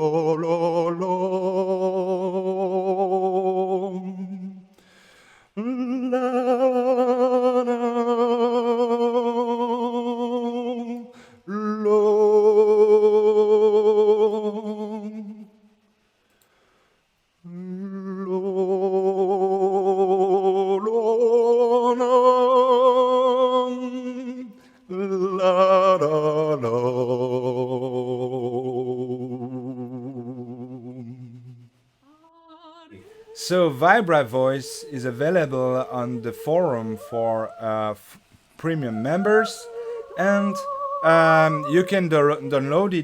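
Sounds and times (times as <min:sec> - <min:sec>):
man singing with vibrato: 0:00.0 - 0:04.8, 0:05.6 - 0:15.6, 0:17.4 - 0:31.8, 0:32.4 - 0:43.0.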